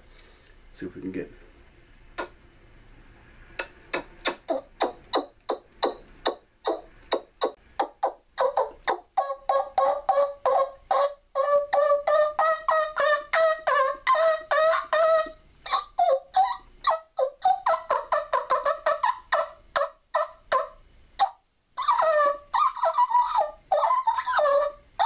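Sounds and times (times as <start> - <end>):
turkey call yelps: 4.0 - 25.0.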